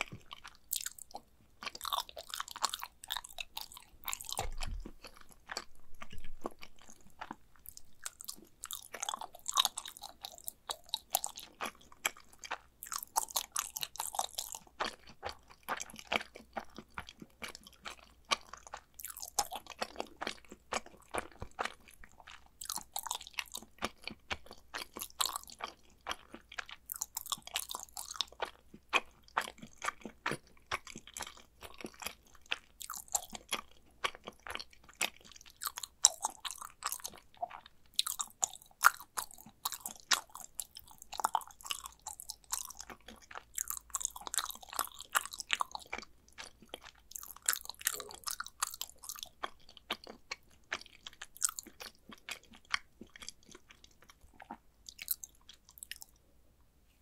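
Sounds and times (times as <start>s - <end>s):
person chewing food: 0.0s - 56.3s.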